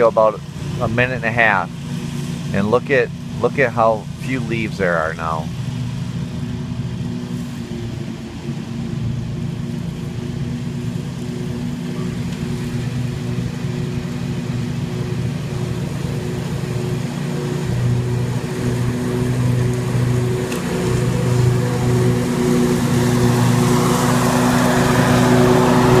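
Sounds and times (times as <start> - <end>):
lawn mower engine running: 0.0 - 26.0
rushing mulching noise: 0.0 - 26.0.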